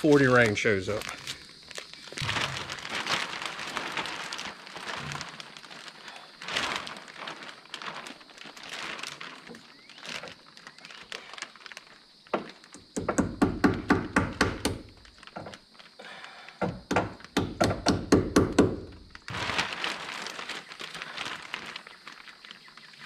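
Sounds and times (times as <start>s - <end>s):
plastic sheeting crinkling: 0.0s - 12.8s, 14.5s - 16.5s, 18.6s - 23.0s.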